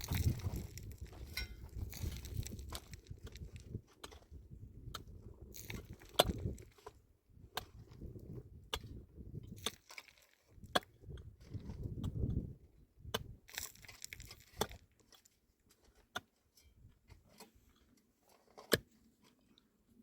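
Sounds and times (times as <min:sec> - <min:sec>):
sharp knocks and crunching: 0:00.0 - 0:19.5.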